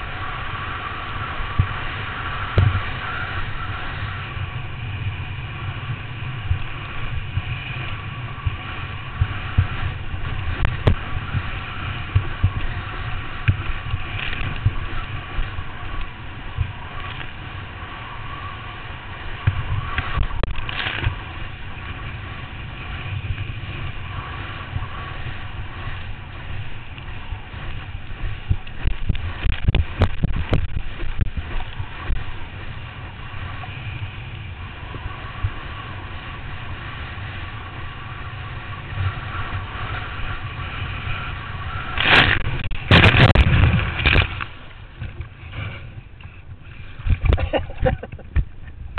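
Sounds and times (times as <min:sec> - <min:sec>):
rushing air: 0:00.0 - 0:48.9
wind buffeting microphone: 0:00.0 - 0:48.9.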